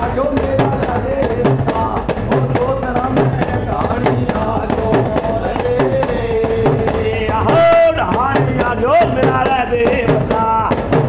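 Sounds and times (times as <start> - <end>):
men singing devotional song: 0.0 - 11.0.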